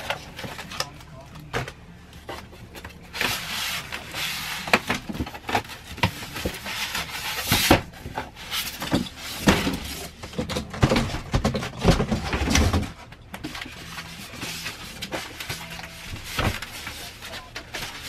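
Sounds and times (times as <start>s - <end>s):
cardboard and foam handling: 0.0s - 18.0s.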